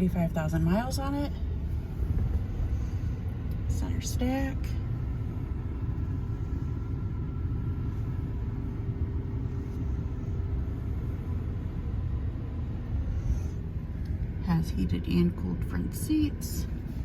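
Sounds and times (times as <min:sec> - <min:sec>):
engine idling low rumble: 0:00.0 - 0:17.0.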